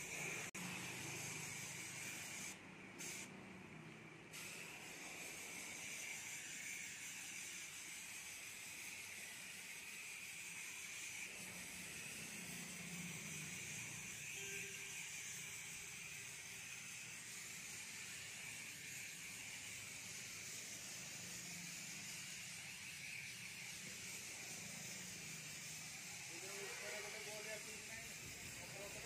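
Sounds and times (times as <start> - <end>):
paint sprayer hissing: 0.0 - 29.0.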